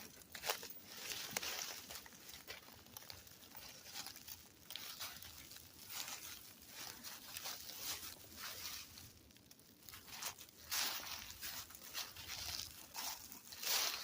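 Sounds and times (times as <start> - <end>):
footsteps crunching through dry leaves: 0.0 - 14.0.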